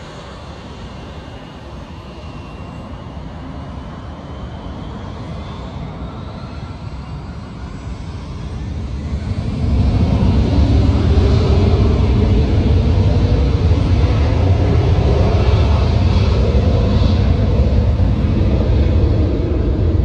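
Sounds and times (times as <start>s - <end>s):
airplane engines at takeoff: 0.0s - 20.0s.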